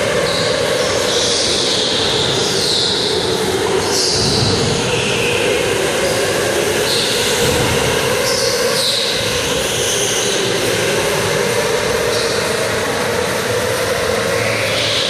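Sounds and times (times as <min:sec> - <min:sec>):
electric go-kart motors whining: 0:00.0 - 0:15.0
steady drone: 0:00.0 - 0:15.0.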